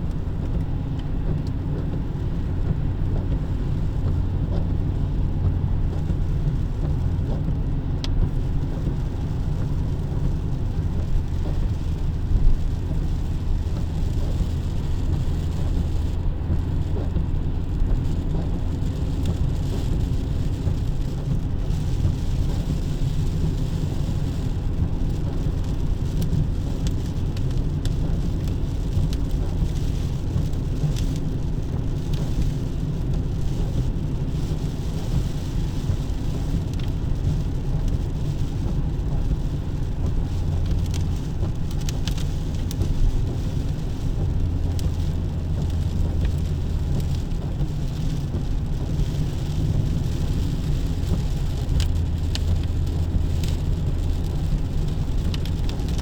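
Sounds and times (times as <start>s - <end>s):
car road rumble: 0.0s - 56.0s
rain falling: 0.0s - 56.0s
raindrop ticks: 0.0s - 56.0s.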